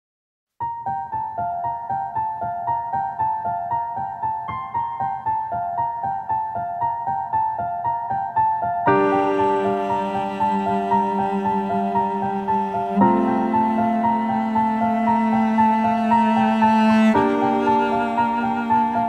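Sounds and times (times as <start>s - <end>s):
solo piano: 0.6s - 19.0s.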